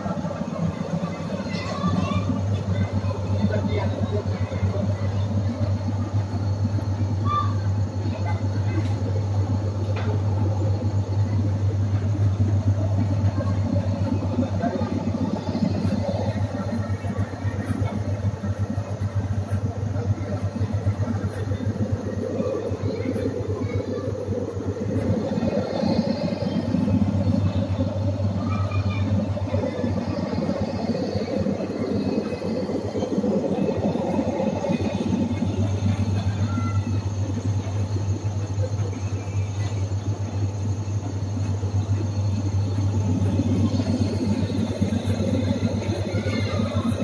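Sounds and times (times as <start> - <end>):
machine motor hum and rumble: 0.0 - 47.0.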